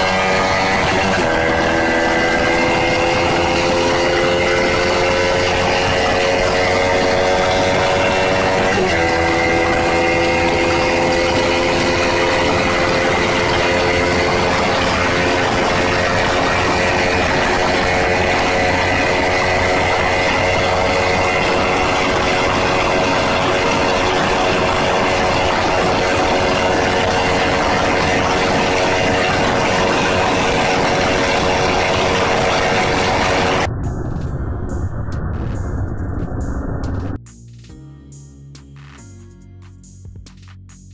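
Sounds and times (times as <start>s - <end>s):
motorcycle engine at high revs: 0.0s - 33.7s
rushing wind noise: 0.0s - 37.2s.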